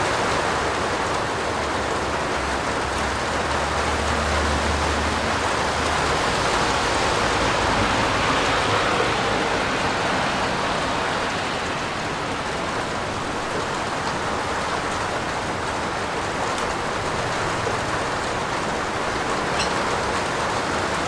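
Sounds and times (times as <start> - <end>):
heavy rain on a roof: 0.0 - 21.0.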